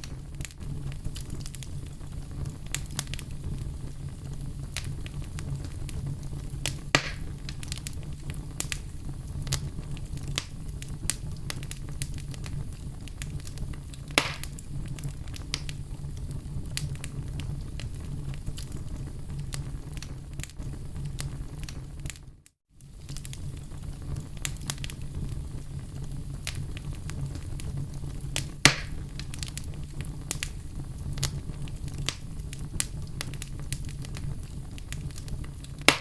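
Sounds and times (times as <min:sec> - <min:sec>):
fire pops: 0:00.0 - 0:36.0
wood fire crackling: 0:00.0 - 0:36.0.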